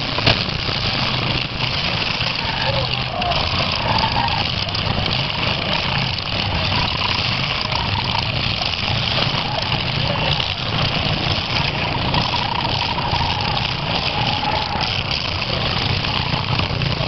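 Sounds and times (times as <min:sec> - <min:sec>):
car engines running at low speed: 0:00.0 - 0:17.0.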